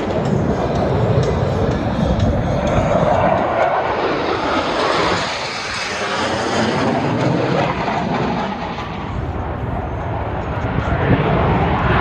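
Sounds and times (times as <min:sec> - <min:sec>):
jets flying past: 0:00.0 - 0:12.0.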